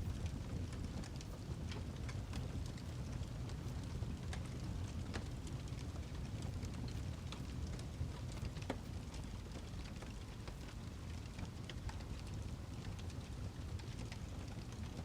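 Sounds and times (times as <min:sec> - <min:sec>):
wood fire rumble: 0:00.0 - 0:15.0
fire pops and snaps: 0:00.1 - 0:15.0.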